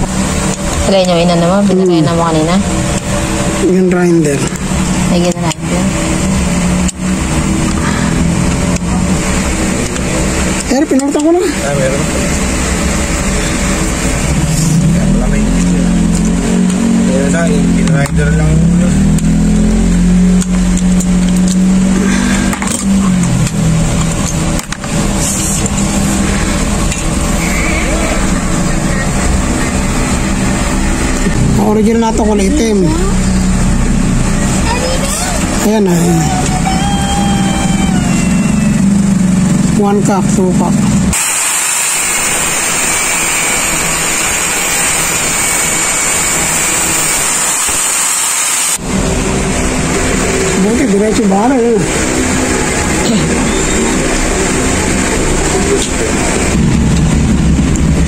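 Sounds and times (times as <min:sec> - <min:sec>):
angle grinder grinding metal: 0:00.0 - 0:39.8, 0:41.0 - 0:56.9
motor humming: 0:00.0 - 0:58.0.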